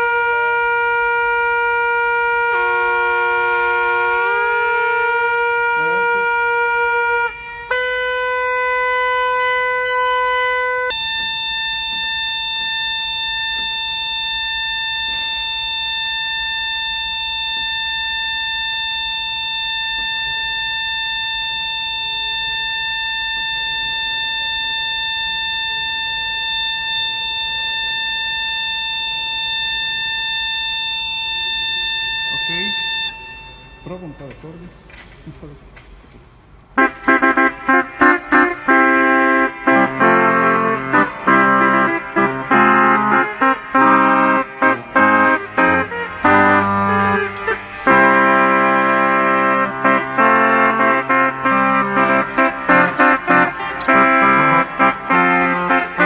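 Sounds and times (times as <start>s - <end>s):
pipe organ held notes: 0.0s - 34.9s, 36.8s - 56.0s.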